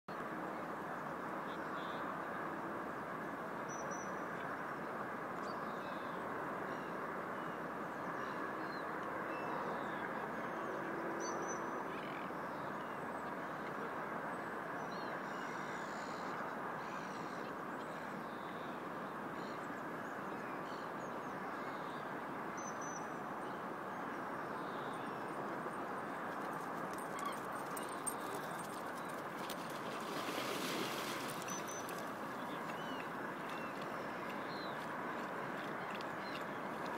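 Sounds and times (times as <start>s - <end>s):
outdoor background noise: 0.1s - 36.9s.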